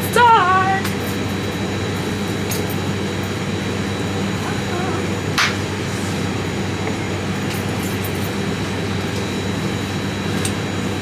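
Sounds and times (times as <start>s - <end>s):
airliner cabin ventilation hum: 0.0s - 11.0s.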